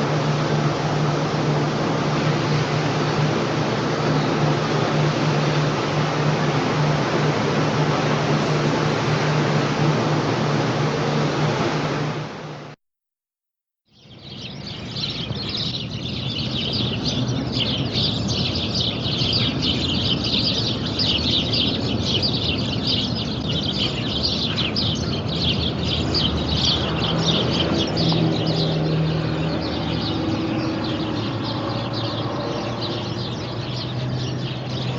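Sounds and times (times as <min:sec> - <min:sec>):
birds chirping: 0:00.0 - 0:10.7, 0:14.0 - 0:34.9.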